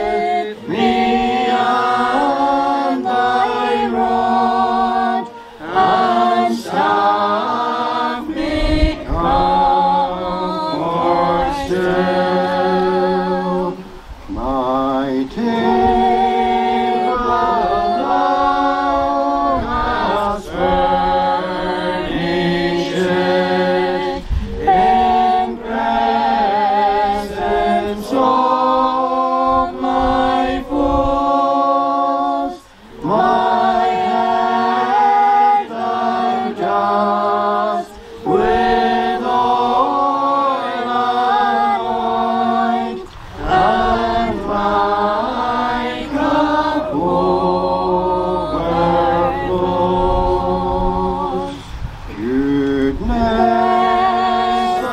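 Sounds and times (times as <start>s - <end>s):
congregation singing a hymn: 0.0s - 54.9s.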